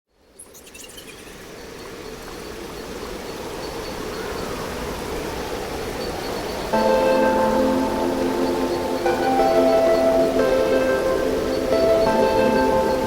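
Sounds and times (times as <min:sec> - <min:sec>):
steady rushing ambient noise: 0:00.3 - 0:13.0.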